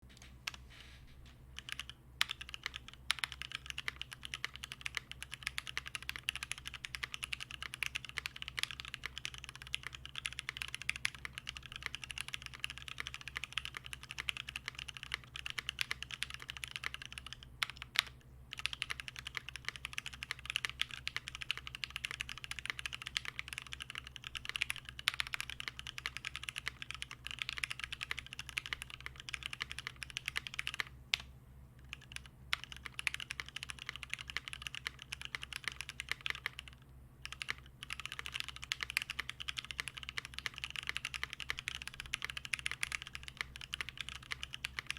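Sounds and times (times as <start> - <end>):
faint low hum: 0.0 - 44.9
fast typing on mechanical keyboard: 1.6 - 31.2, 31.8 - 44.9.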